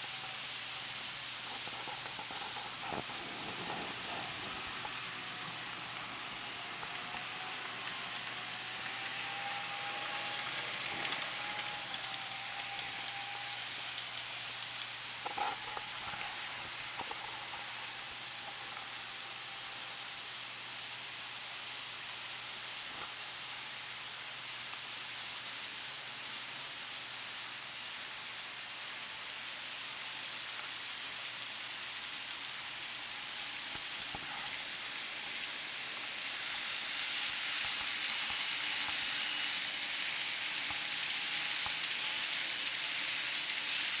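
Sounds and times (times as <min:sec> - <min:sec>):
model train wheels and motor hiss: 0:00.0 - 0:44.0.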